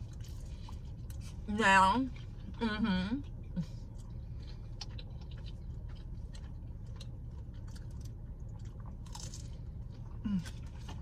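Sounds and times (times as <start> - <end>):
person chewing pizza: 0.0 - 11.0
steady low rumble: 0.0 - 11.0.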